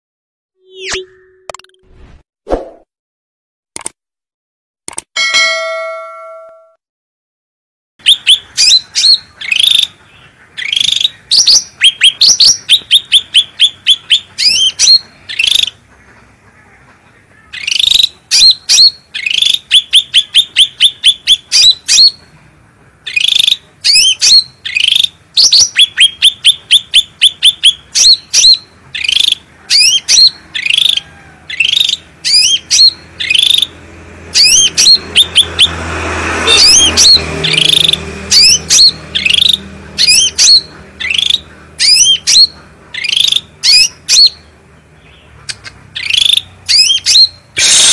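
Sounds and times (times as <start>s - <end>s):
songbird chirping rapidly: 0.6s - 1.8s, 8.0s - 35.8s, 36.5s - 47.8s.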